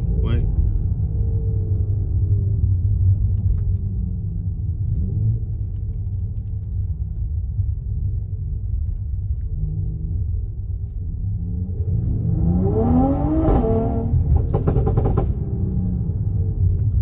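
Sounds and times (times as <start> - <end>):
car engine rumbling inside cabin: 0.0 - 17.0.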